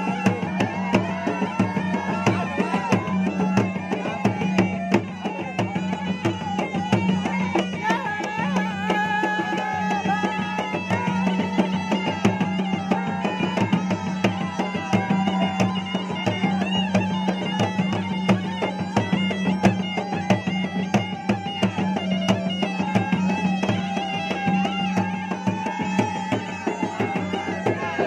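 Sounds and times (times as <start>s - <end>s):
drums in fast rhythm: 0.0s - 28.0s.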